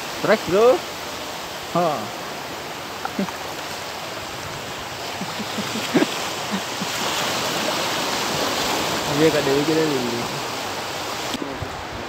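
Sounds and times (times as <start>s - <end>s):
sea waves washing over rocks: 0.0s - 12.0s.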